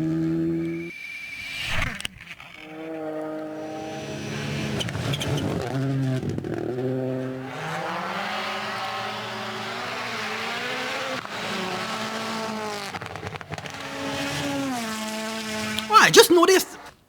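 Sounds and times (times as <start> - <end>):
rally car engine changing gear: 2.0 - 15.9.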